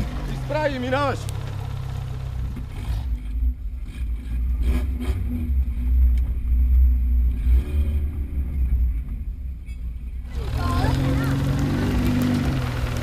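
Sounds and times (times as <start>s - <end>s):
car engine droning under load: 0.0s - 13.0s.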